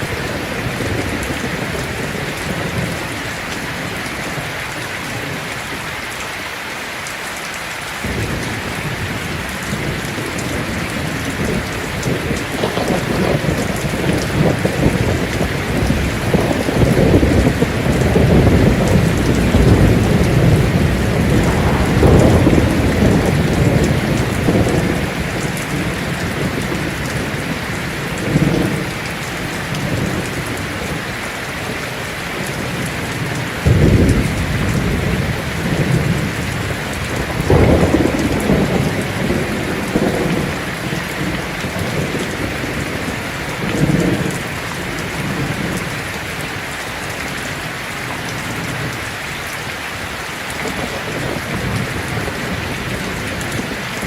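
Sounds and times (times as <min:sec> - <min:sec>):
thunder rumbling: 0:00.0 - 0:05.9, 0:08.0 - 0:49.2, 0:50.5 - 0:54.0
heavy rain on a tin roof: 0:00.0 - 0:54.0.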